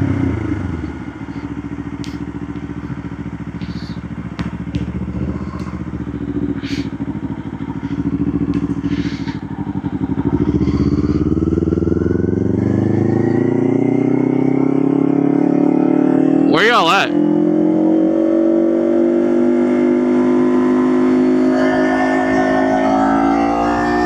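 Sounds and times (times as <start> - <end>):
motorcycle engine idling and revving: 0.0 - 16.5, 17.1 - 24.0.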